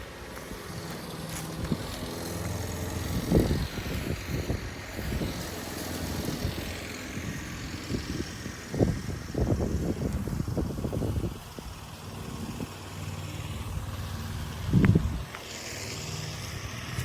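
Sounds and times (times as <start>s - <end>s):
wind gusting on microphone: 0.0s - 15.4s
lawn mower engine running: 0.0s - 17.0s.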